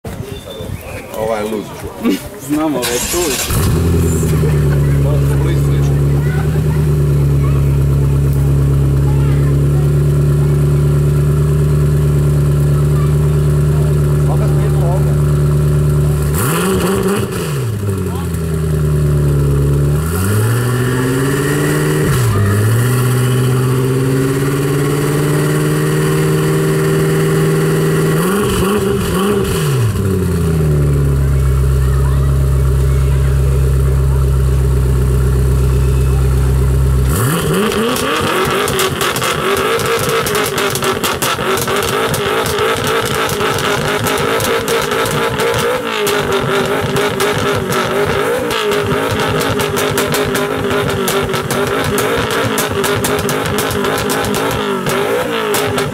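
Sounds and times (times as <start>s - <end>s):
exhaust crackling and popping: 1.8s - 55.9s
car engine revving: 2.6s - 55.9s.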